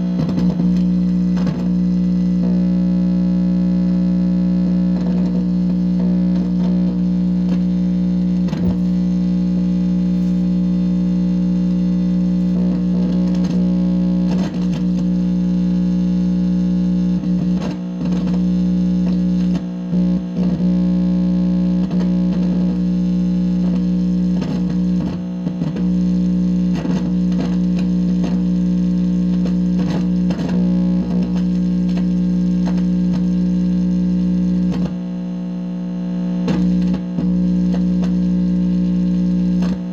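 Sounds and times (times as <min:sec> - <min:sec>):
distorted electrical buzz: 0:00.0 - 0:39.9.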